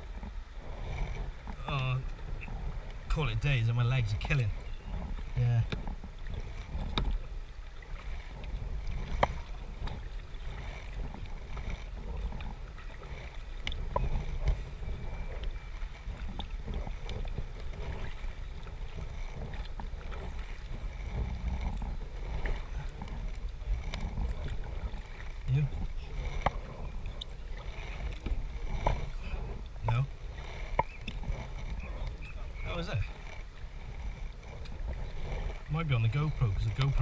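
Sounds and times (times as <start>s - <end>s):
water splashing past boat: 0.0s - 37.0s.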